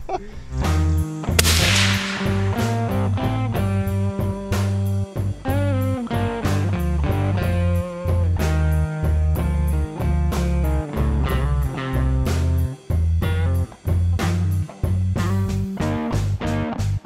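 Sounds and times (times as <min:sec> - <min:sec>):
rock music with electric guitar: 0:01.1 - 0:17.0.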